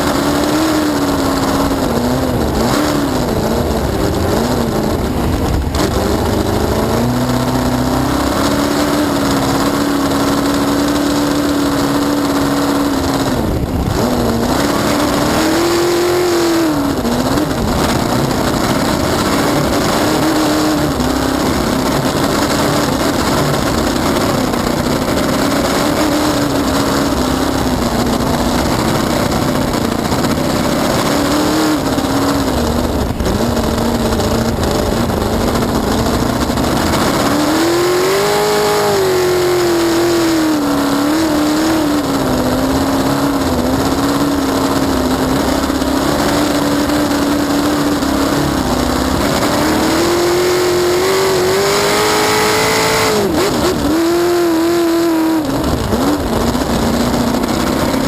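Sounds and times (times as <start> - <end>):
race boat engine running hard: 0.0 - 58.0
rush of noise: 0.0 - 58.0.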